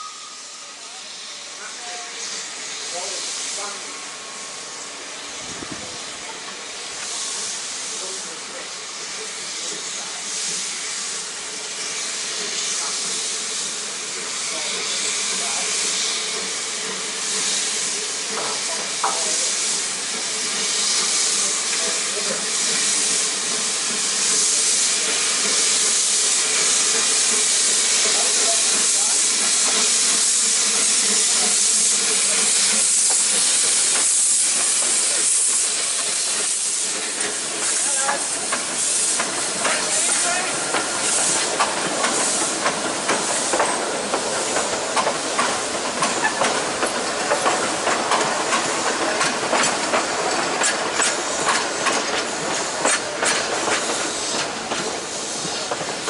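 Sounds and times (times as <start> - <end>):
hiss of steam: 0.0 - 56.0
steam locomotive pulling train: 0.0 - 56.0.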